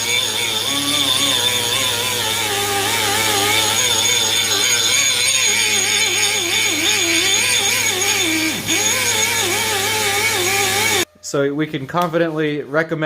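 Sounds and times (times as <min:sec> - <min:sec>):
die grinder spinning at high speed: 0:00.0 - 0:11.1
steady low hum: 0:00.0 - 0:12.7.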